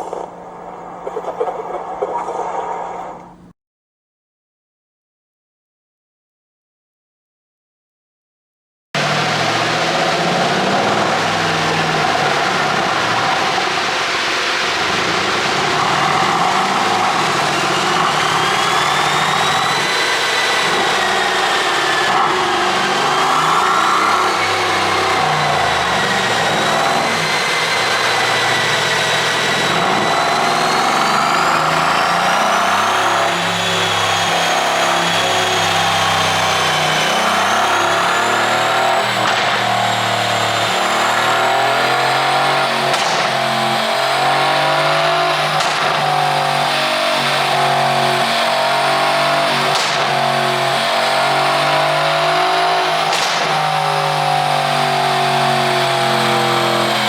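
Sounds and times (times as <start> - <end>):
car engine running: 0.0 - 3.5, 9.0 - 53.2.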